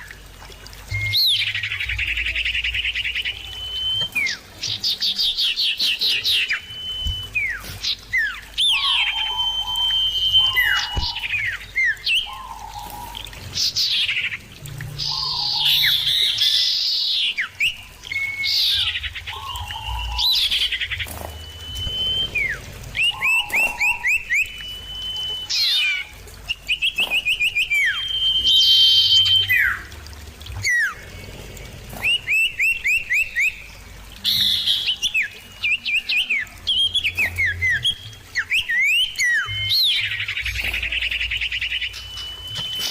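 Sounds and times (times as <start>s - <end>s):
birds whistling: 0.9s - 30.0s, 31.9s - 42.9s.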